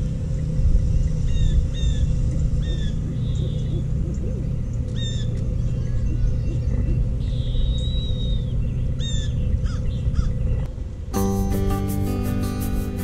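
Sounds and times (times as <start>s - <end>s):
small birds chirping: 0.0s - 10.7s
steady low rumble: 0.0s - 13.0s.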